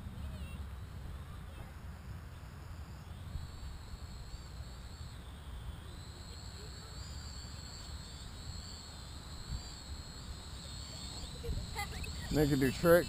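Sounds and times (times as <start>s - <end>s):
toy drone motors whining: 0.2s - 13.0s.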